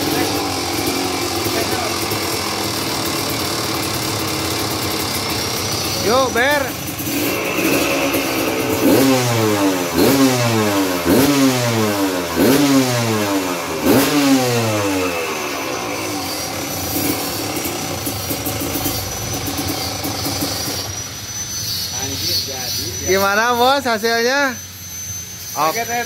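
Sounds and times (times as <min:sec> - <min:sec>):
motorcycle engine idling: 0:00.0 - 0:21.8
two-stroke motorcycle engine revving: 0:00.0 - 0:23.7.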